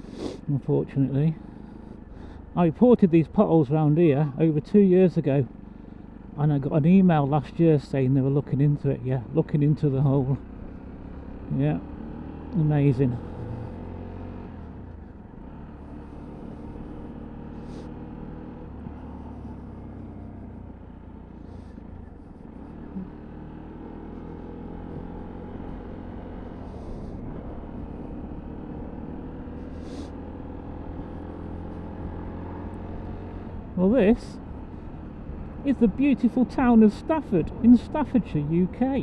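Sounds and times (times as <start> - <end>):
motorcycle engine running: 1.1 - 2.8, 8.8 - 39.0.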